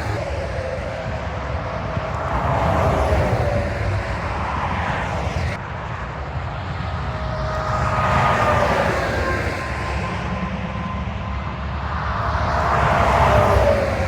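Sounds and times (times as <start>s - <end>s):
trucks passing on highway: 0.0s - 14.0s.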